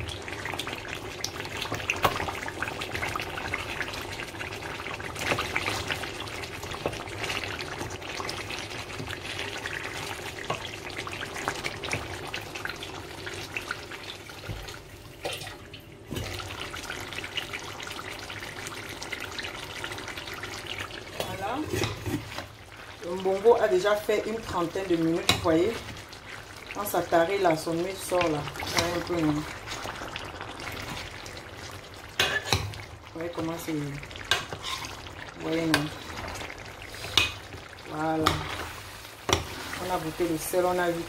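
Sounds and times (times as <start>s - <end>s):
stew bubbling in a pot: 0.0s - 41.0s.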